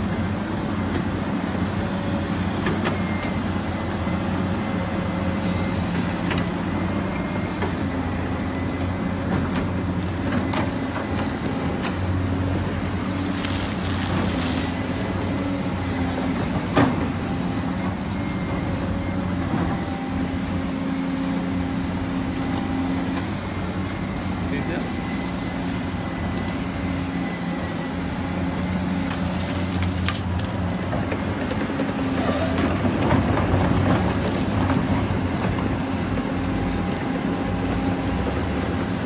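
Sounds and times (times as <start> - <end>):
heavy machinery engine running: 0.0 - 39.0.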